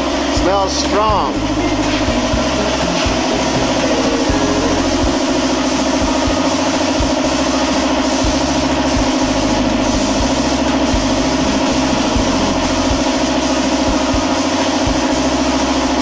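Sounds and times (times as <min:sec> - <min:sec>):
air compressor pulsing: 0:00.0 - 0:16.0
spray gun hissing: 0:00.0 - 0:16.0.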